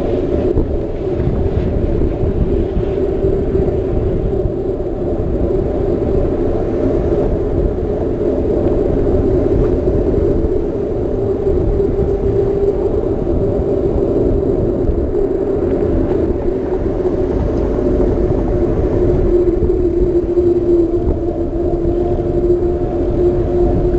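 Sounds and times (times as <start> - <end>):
rolling tyre noise: 0.0 - 23.9
wind rumble: 0.0 - 23.9.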